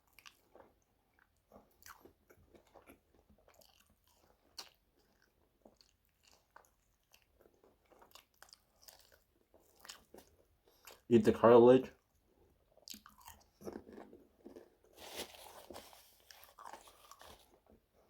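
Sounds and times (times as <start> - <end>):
chewing crispy chicken: 0.0 - 11.3, 11.9 - 18.0.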